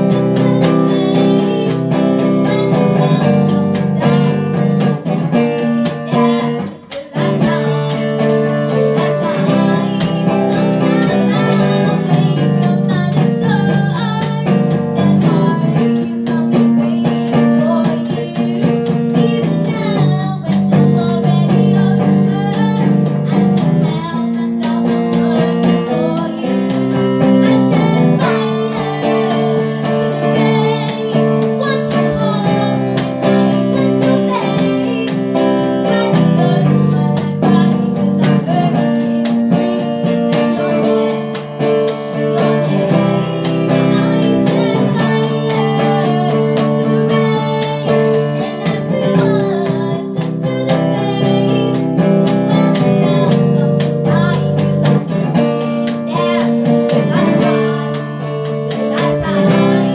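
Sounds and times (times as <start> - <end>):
girl singing into a microphone: 0.0 - 59.9
guitar accompaniment: 0.0 - 59.9.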